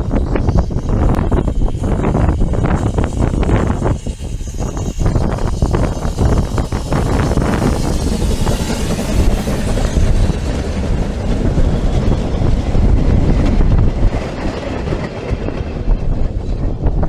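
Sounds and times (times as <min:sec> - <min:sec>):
carriages rumbling over track: 0:00.0 - 0:17.0
steam train passing: 0:00.0 - 0:17.0
train wheel clicks: 0:00.1 - 0:17.0.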